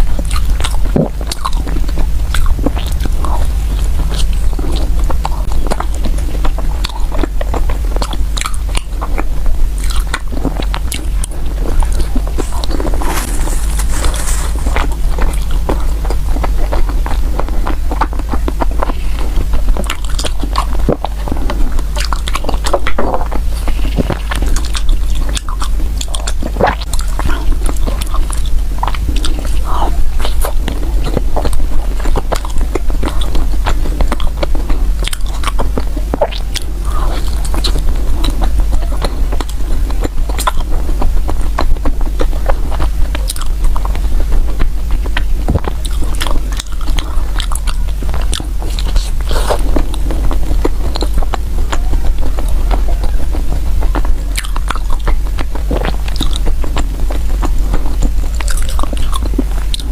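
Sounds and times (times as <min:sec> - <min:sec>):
mouth clicks and smacks: 0:00.0 - 0:59.9
person chewing food: 0:00.0 - 0:59.9
steady low hum: 0:00.0 - 0:59.9.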